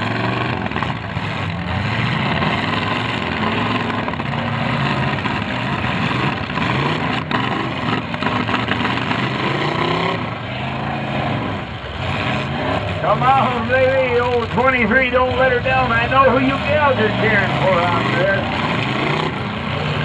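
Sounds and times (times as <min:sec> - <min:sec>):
car engines running and revving: 0:00.0 - 0:20.0.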